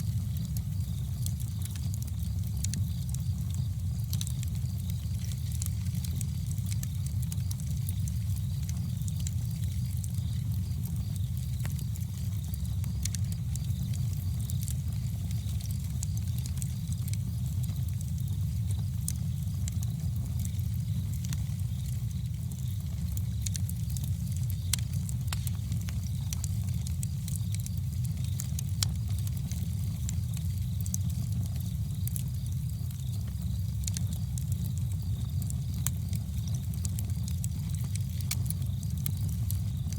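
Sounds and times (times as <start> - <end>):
burning wood crackling: 0.0 - 39.9
campfire flames rumbling: 0.0 - 39.9.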